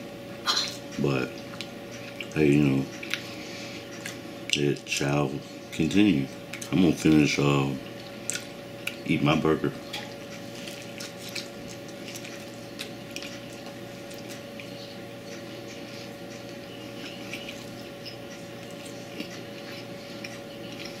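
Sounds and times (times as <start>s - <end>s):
steady electrical hum: 0.0s - 21.0s
man chewing: 0.7s - 4.9s, 5.7s - 9.0s, 9.8s - 21.0s.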